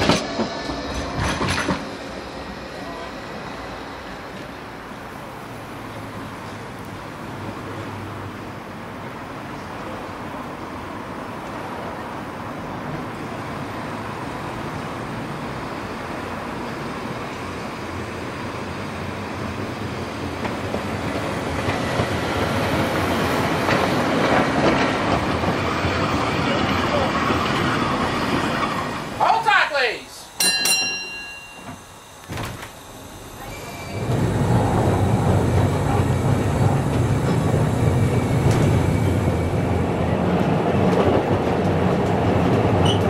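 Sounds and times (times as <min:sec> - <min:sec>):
tram rail rumble: 0:00.0 - 0:43.0.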